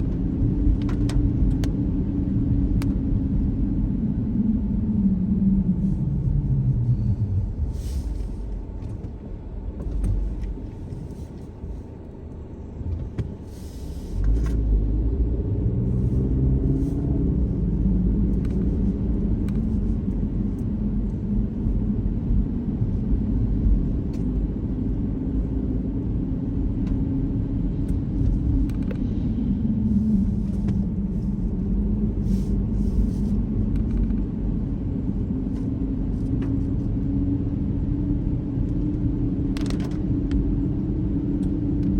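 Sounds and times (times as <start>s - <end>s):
car engine: 0.0s - 41.9s
road rumble: 0.0s - 41.9s.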